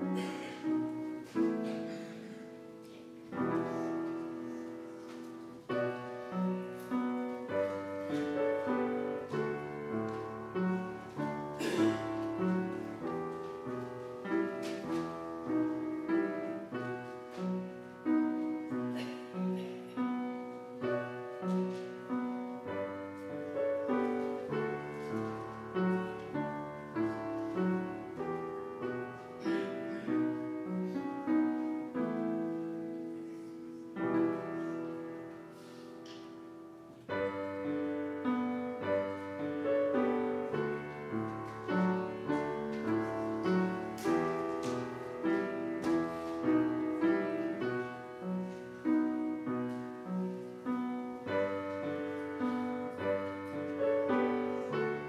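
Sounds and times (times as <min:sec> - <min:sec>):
slow quiet piano piece: 0:00.0 - 0:55.0.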